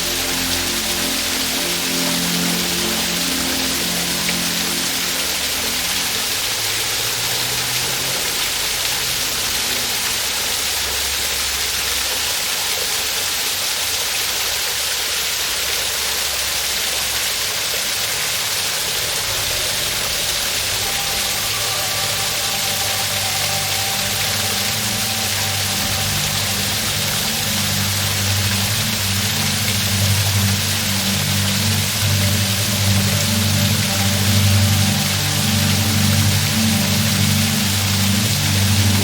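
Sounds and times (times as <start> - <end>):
low sustained tones: 0.0 - 12.2, 16.7 - 39.0
waterfall rushing: 0.0 - 39.0.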